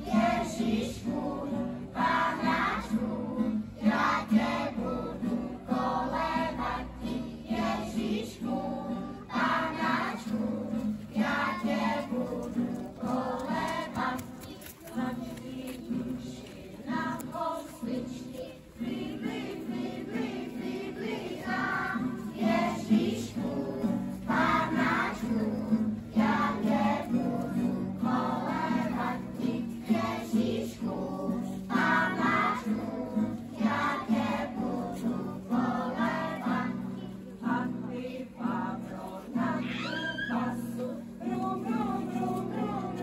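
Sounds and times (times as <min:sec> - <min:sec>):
children singing together: 0:00.0 - 0:43.0.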